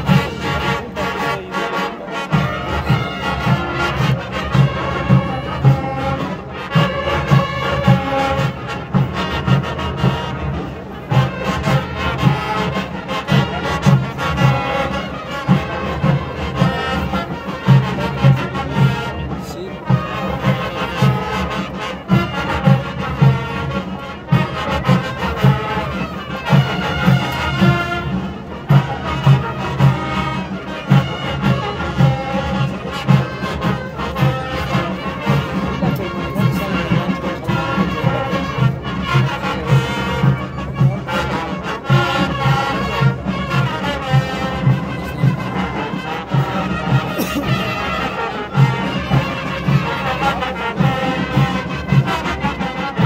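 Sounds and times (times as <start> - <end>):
marching band brass: 0.0 - 53.0.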